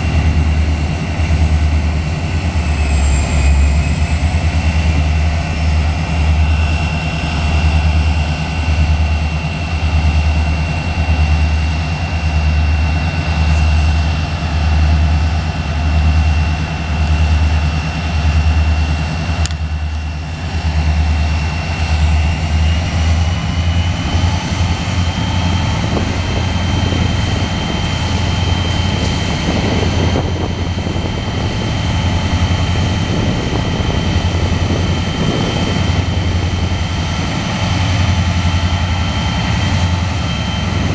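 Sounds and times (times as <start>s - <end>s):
diesel locomotive engine drone: 0.0s - 40.9s
steady high whine: 0.0s - 40.9s.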